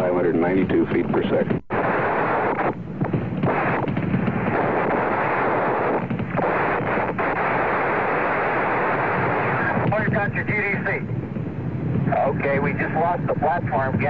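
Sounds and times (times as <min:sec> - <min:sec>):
crackling rocket engine roar: 0:00.0 - 0:14.0.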